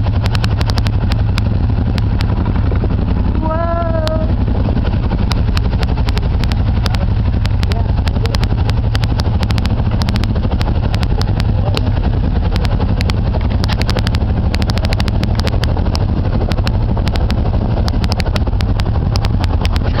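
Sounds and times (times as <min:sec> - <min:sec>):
sharp clicks: 0:00.0 - 0:02.7, 0:04.0 - 0:20.0
atv engine rumbling: 0:00.0 - 0:20.0.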